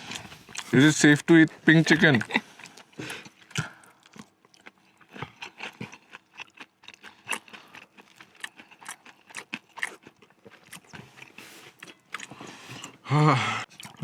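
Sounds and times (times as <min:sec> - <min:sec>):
person chewing crunchy food: 0:00.0 - 0:00.8, 0:02.1 - 0:14.0.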